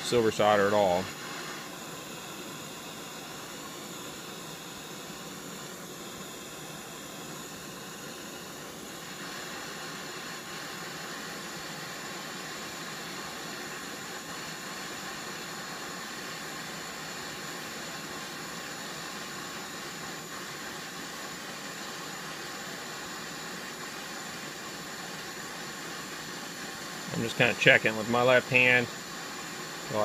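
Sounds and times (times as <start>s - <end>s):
propane torch hissing: 0.0s - 30.0s.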